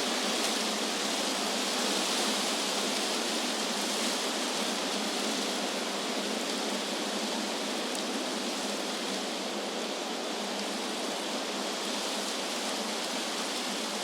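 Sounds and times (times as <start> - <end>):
wind rushing through leaves: 0.0 - 14.0.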